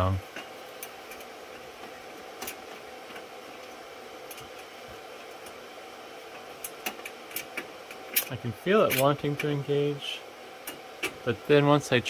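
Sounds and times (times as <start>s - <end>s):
server rack fan hum: 0.0s - 12.0s.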